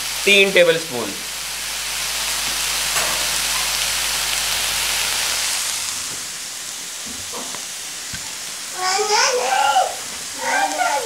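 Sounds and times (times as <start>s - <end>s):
steak sizzling on a griddle: 0.0s - 11.0s.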